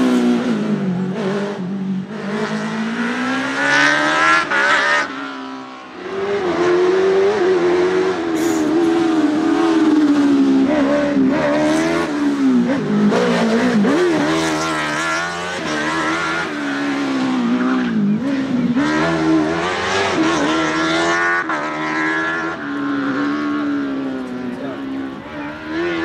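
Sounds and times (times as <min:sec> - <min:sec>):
motorcycle engine revving hard: 0:00.0 - 0:26.0.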